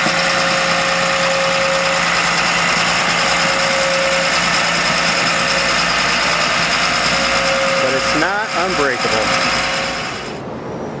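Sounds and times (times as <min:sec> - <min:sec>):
bulldozer diesel engine running: 0:00.0 - 0:10.4
constant high tone: 0:00.0 - 0:10.4.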